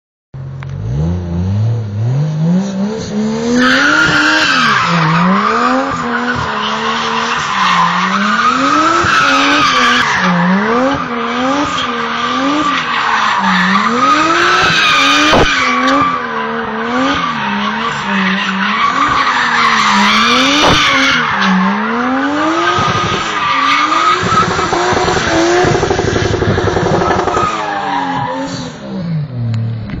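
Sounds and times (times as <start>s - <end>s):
car engine revving: 0.4s - 30.0s.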